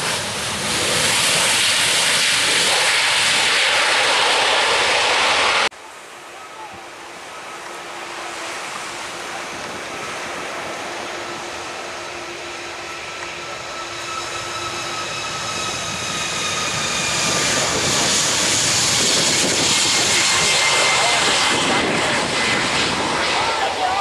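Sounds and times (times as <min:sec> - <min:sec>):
jet airliner engines whining: 0:00.0 - 0:24.0.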